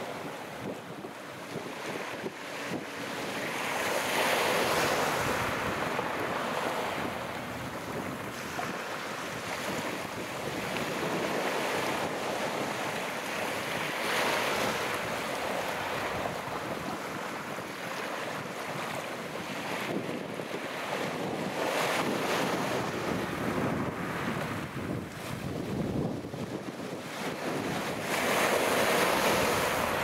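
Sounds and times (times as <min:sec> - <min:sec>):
sea waves breaking on shore: 0:00.0 - 0:30.0
wind buffeting microphone: 0:00.0 - 0:30.0.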